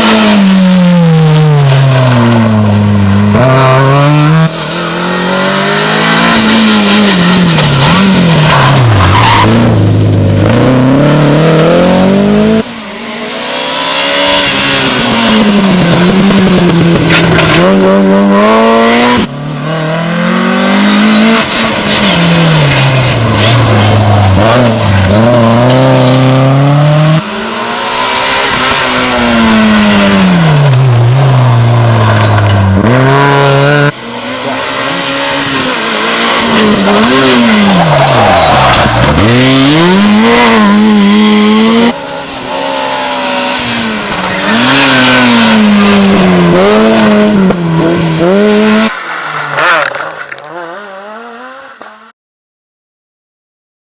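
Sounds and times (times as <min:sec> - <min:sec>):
rally car engines passing: 0:00.0 - 0:52.1.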